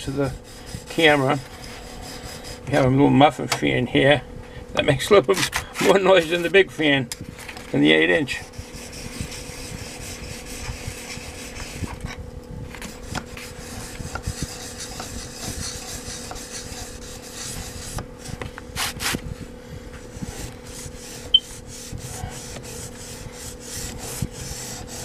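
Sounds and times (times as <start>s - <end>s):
small fan humming: 0.0s - 25.0s.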